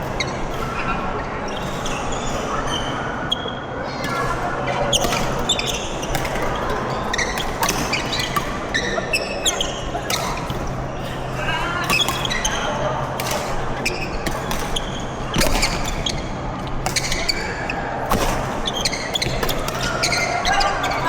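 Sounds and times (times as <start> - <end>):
shoes squeaking on court floor: 1.5 - 21.0
racket hitting shuttlecock: 4.0 - 21.0.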